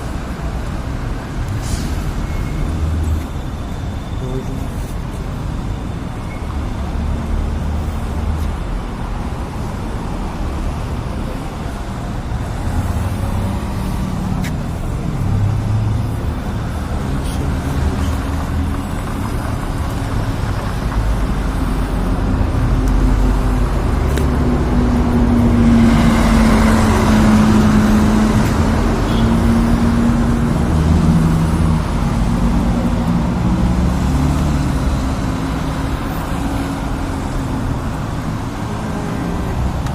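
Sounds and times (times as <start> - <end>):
cars passing: 0.0 - 39.9
vehicle engine hum: 0.0 - 39.9.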